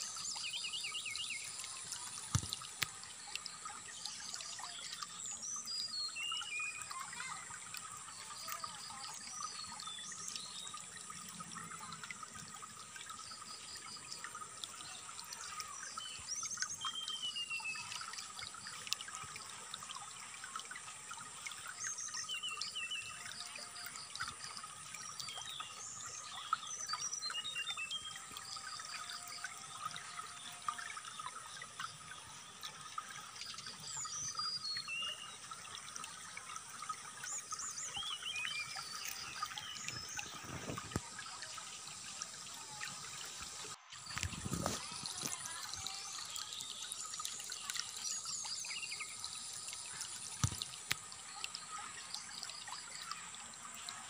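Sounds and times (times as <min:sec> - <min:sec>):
water trickling: 0:00.0 - 0:54.0.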